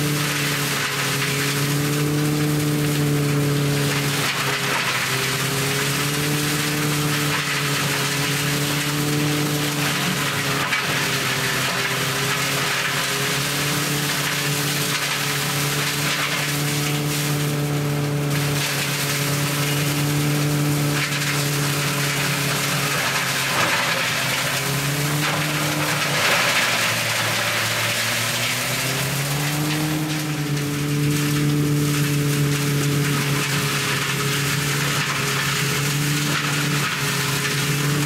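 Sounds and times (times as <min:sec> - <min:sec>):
branch shredder crunching wood: 0:00.0 - 0:38.0
tractor engine drone: 0:00.0 - 0:38.0.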